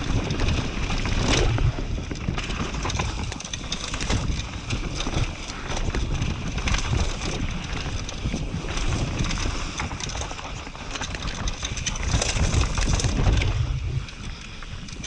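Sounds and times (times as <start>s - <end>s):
bike rattling: 0.0s - 15.0s
tyres rolling over dirt and stones: 0.0s - 15.0s
wind buffeting microphone: 0.0s - 15.0s.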